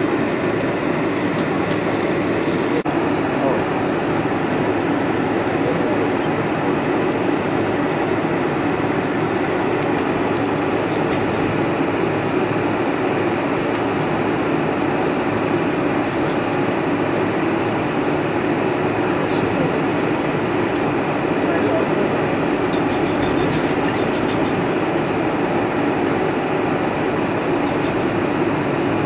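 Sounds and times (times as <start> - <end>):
jet engines humming: 0.0 - 29.0.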